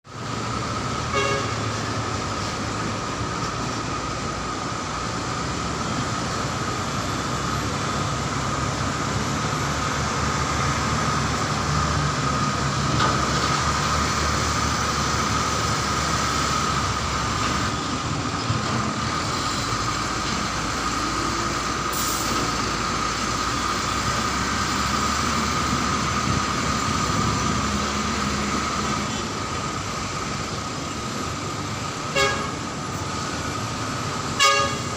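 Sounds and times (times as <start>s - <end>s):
dump truck engine drone: 0.0s - 34.9s.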